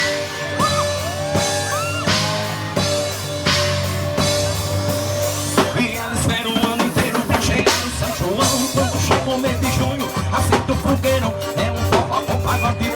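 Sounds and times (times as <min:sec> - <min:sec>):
drum kit steady beat: 0:00.0 - 0:12.9
live band playing: 0:00.0 - 0:12.9.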